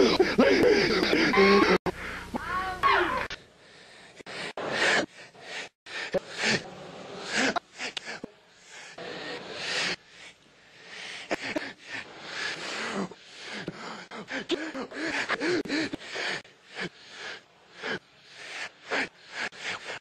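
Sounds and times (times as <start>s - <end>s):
person gasping and breathing heavily: 0.0s - 2.4s, 3.6s - 20.0s.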